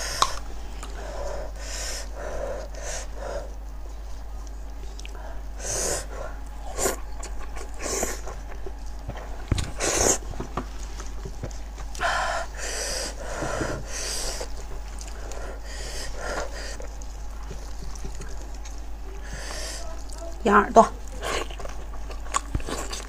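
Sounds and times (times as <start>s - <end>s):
wet chewing and sucking: 0.0s - 12.0s, 13.1s - 20.4s, 21.0s - 23.0s.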